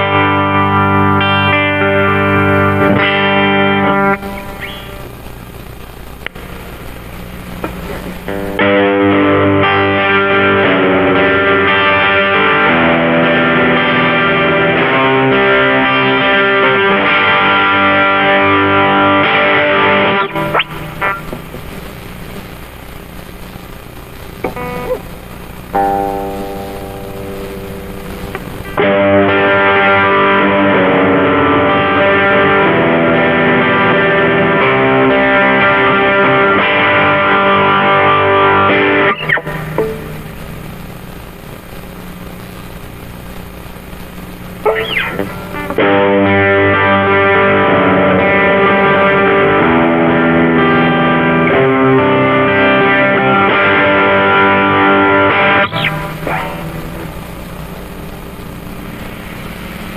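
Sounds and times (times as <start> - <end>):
distorted electric guitar chords: 0.0 - 59.9.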